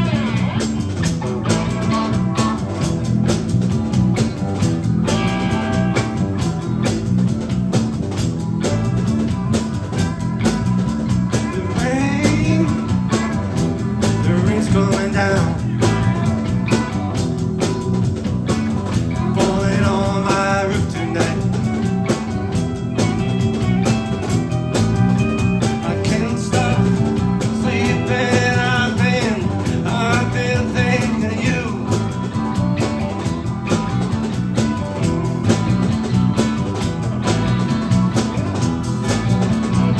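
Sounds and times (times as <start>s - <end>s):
lead guitar solo: 0.0s - 19.4s, 20.1s - 39.9s
blues-rock band playing: 0.0s - 39.9s.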